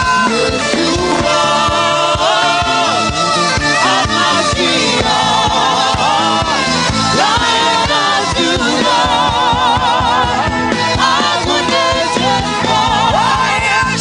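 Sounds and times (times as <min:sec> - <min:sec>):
band with steady drum beat: 0:00.0 - 0:14.0
person singing with vibrato: 0:00.0 - 0:14.0.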